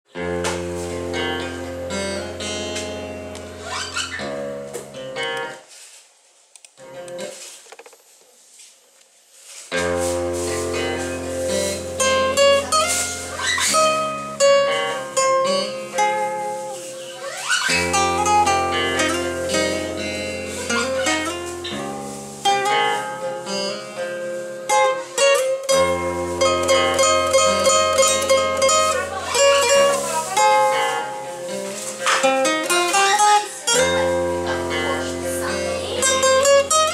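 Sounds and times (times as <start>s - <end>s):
picked string instrument notes: 0.1s - 5.6s, 9.7s - 36.9s
guitar strumming: 0.1s - 5.7s, 6.8s - 7.4s, 9.7s - 36.9s.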